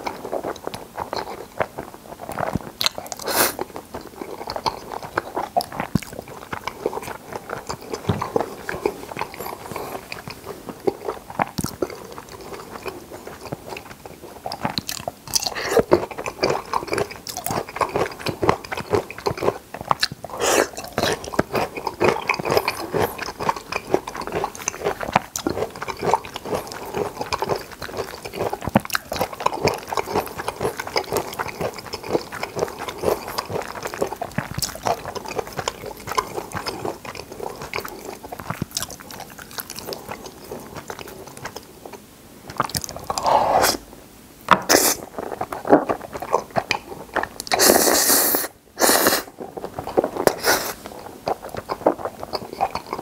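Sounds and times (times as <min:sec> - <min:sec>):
wet chewing mouth sounds: 0:00.0 - 0:43.9, 0:44.5 - 0:53.0.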